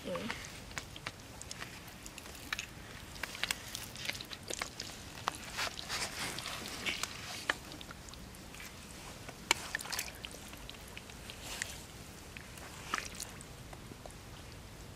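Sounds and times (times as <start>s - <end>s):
small water splashes: 0.0s - 14.1s
hands squelching through wet mud: 0.0s - 14.2s.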